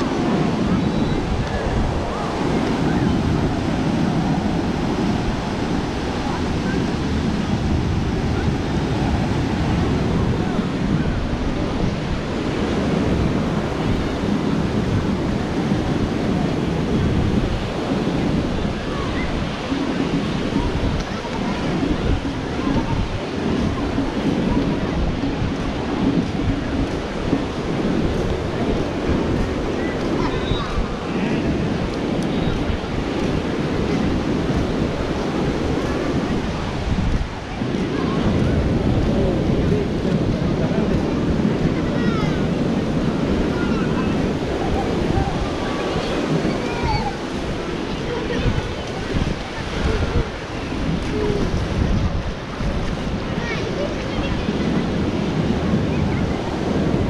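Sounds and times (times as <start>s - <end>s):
surf washing onto beach: 0.0s - 57.0s
wind buffeting microphone: 0.0s - 57.0s.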